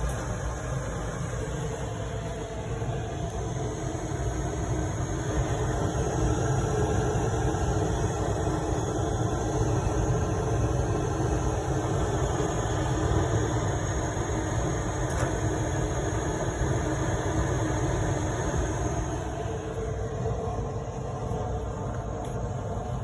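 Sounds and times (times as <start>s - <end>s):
oil burner fan rushing: 0.0s - 23.0s.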